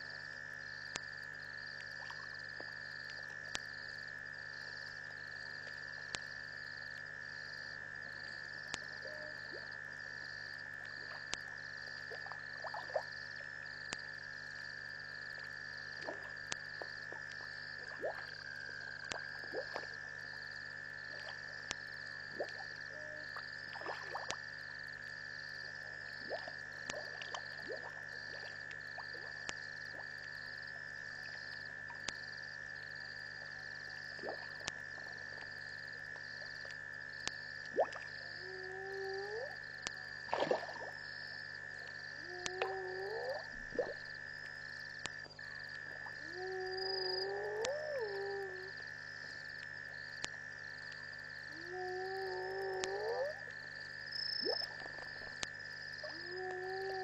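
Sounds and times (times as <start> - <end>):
insects trilling: 0.0 - 57.0
short frog calls: 0.0 - 57.0.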